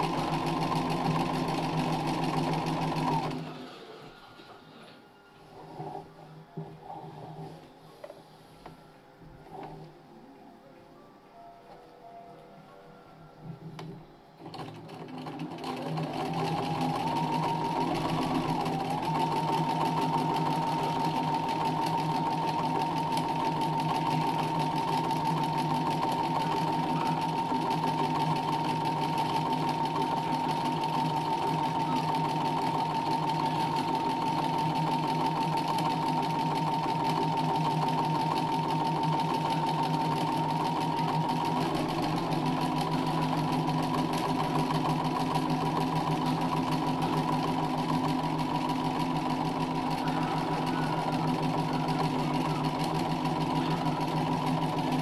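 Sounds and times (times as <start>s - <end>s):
sewing machine whining: 0.0s - 6.0s, 13.8s - 55.0s.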